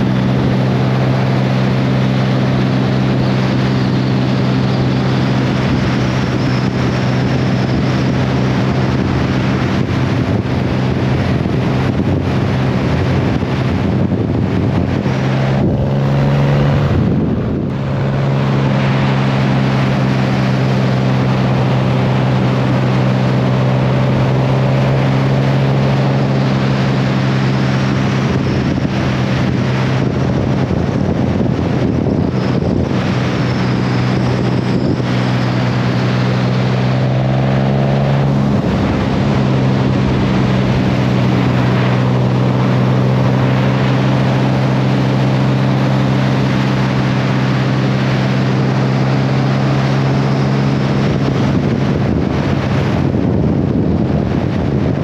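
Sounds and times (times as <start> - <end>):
motorcycle engine cruising: 0.0 - 55.0
wind on microphone: 0.0 - 55.0.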